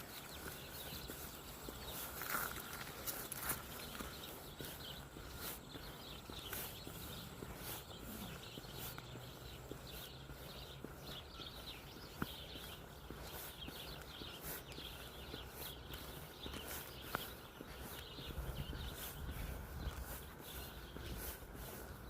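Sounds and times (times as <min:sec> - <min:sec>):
faint bird chirps: 0:00.0 - 0:22.0
footsteps on outdoor trail: 0:00.0 - 0:22.0.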